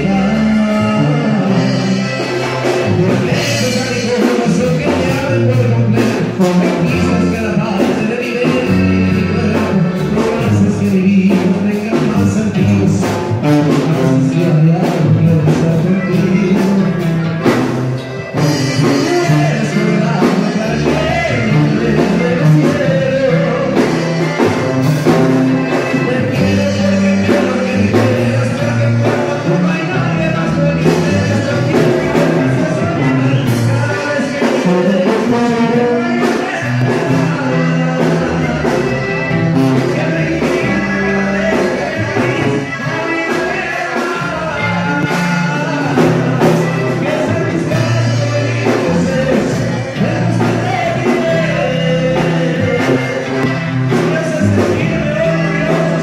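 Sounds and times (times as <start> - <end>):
bass: 0.0 - 56.0
live band playing: 0.0 - 56.0.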